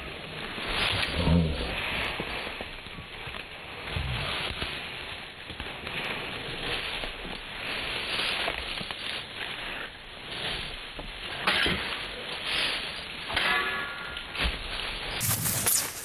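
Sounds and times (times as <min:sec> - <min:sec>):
feet crunching through dry leaves: 0:00.0 - 0:16.0.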